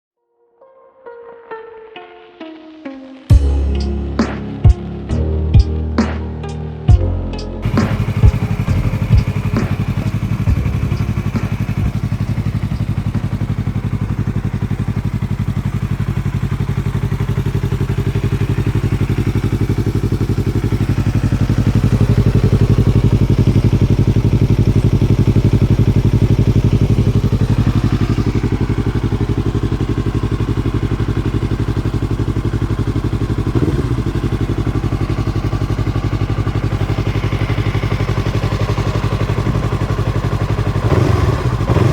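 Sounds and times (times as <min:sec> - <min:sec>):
motorcycle engine revving: 0:07.6 - 0:41.9.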